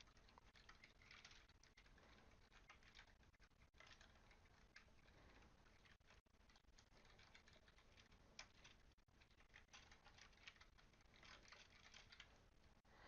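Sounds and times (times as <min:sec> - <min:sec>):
faint keyboard typing: 0:00.0 - 0:13.0.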